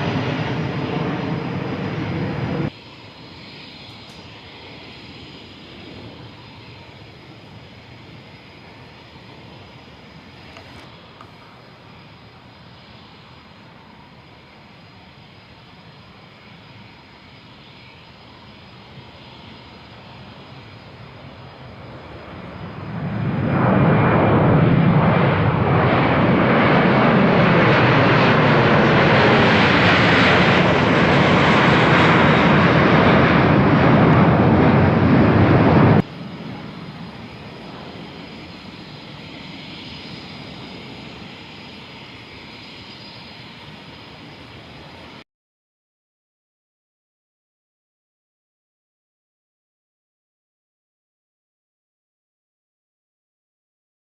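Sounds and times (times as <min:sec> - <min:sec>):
jet engine noise: 0:00.0 - 0:45.2.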